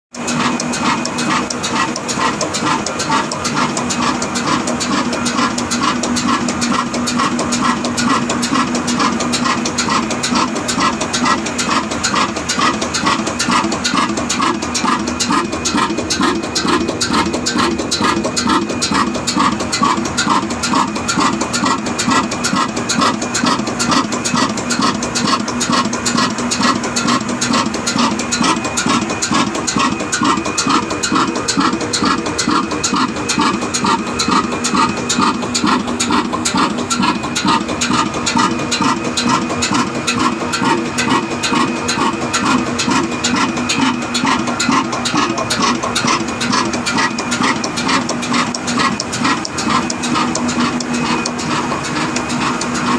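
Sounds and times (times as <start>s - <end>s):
diesel engine chugging: 0.2s - 52.9s.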